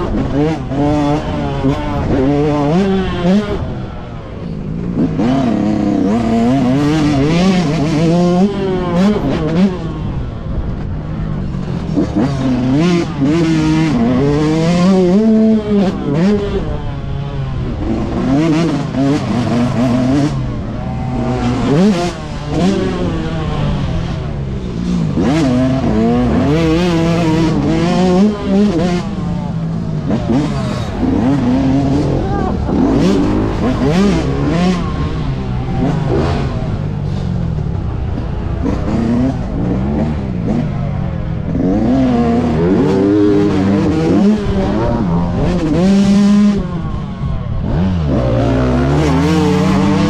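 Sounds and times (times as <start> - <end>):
two-stroke motocross engine revving: 0.0 - 50.0.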